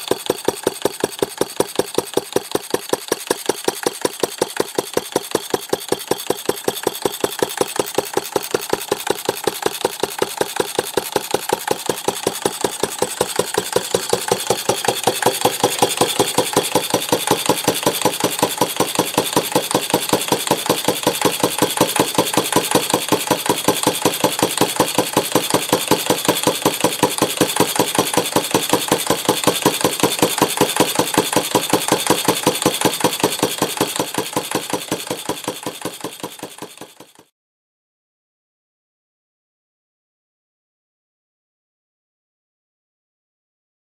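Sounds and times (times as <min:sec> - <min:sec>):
single-cylinder engine running: 0:00.0 - 0:37.2.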